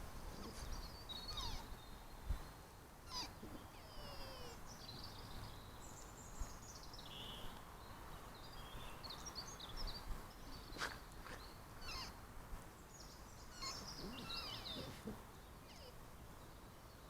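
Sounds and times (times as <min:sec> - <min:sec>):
steady outdoor hiss: 0:00.0 - 0:17.0
birds singing and chirping: 0:00.3 - 0:02.4, 0:03.1 - 0:12.2, 0:12.9 - 0:17.0.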